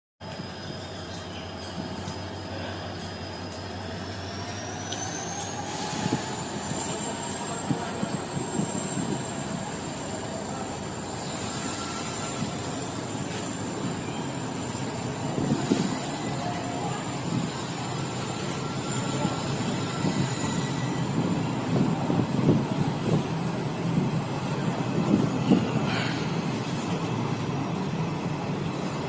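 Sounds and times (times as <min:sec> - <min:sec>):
train wheels rumbling on track: 0:00.2 - 0:29.0.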